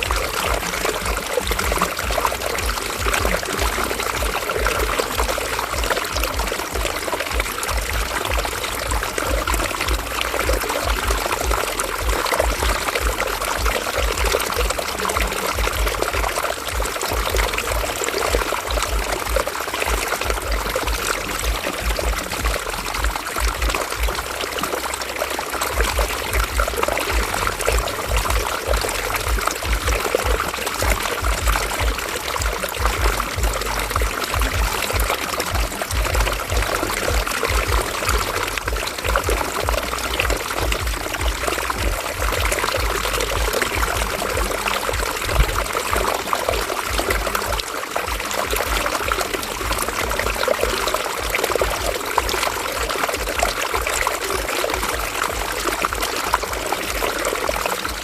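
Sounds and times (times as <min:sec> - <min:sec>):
river water flowing over stones: 0:00.0 - 0:58.0.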